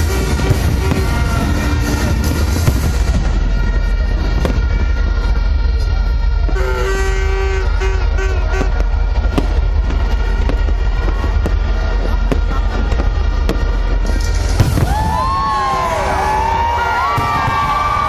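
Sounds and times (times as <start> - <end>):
firework bang: 0.0 - 18.0
fireworks popping and crackling: 0.0 - 18.0.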